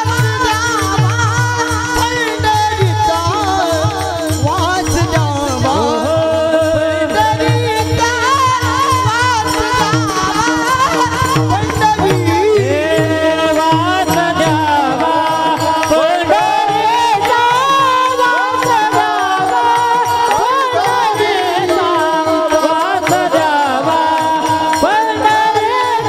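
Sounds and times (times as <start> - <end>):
men singing devotional melody: 0.0 - 26.0.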